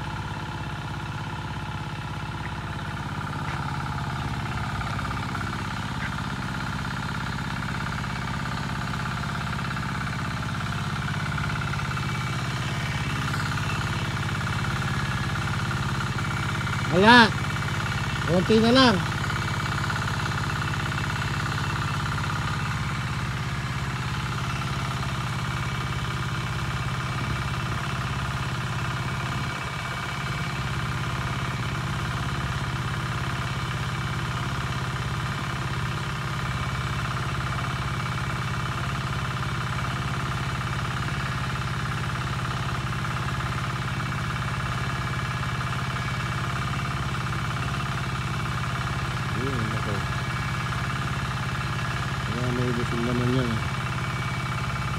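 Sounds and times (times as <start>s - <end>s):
small engine droning: 0.0s - 54.9s.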